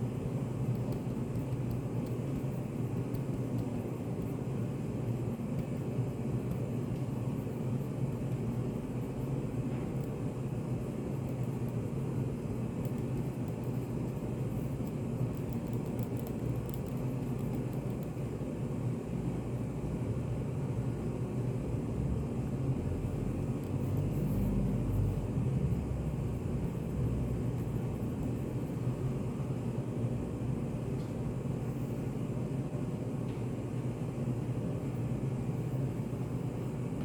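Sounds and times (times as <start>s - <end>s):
low rumbling room hum: 0.0s - 37.0s.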